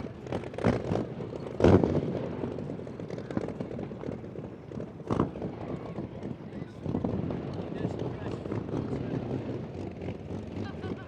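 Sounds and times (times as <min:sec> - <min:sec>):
engine running roughly: 0:00.0 - 0:11.0.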